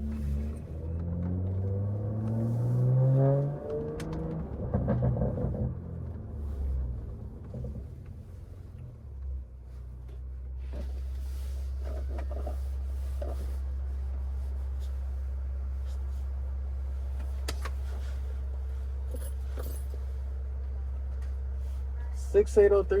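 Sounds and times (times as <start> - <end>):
car exhaust rumble from cabin: 0.0 - 23.0.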